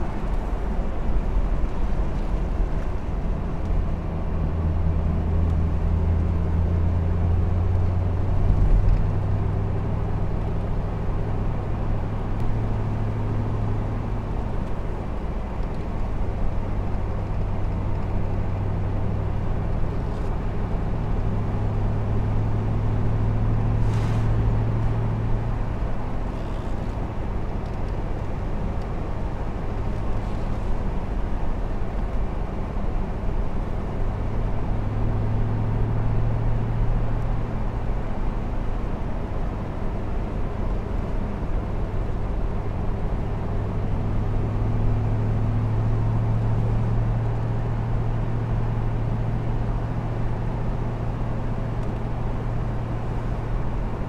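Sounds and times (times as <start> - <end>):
car engine hum: 0.0 - 54.0
road and wind noise: 0.0 - 54.0.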